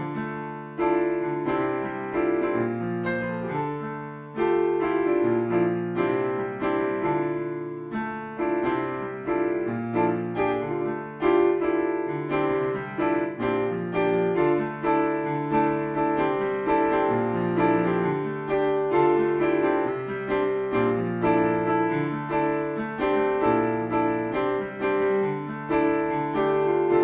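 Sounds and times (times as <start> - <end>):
slow blues piano chords: 0.0 - 27.0.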